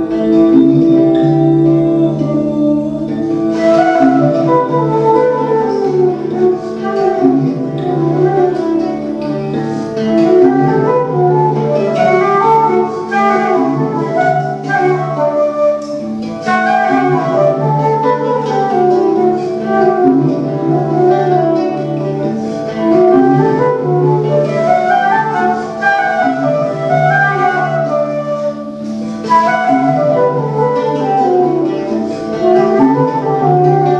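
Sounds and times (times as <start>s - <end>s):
flute melody: 0.0s - 33.9s.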